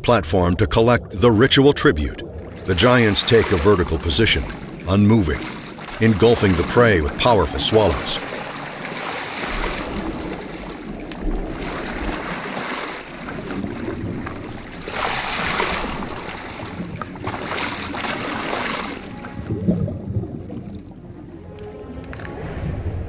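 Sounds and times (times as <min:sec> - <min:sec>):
water rushing and splashing: 0:00.0 - 0:23.0.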